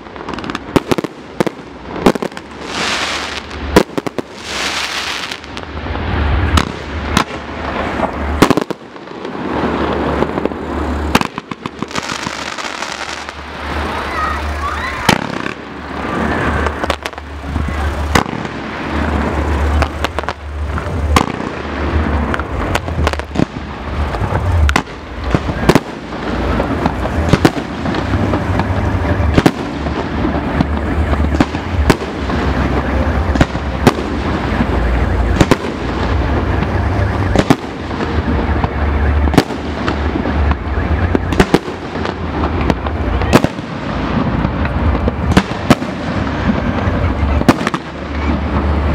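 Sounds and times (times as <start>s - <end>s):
continuous low rumble: 0.0s - 48.9s.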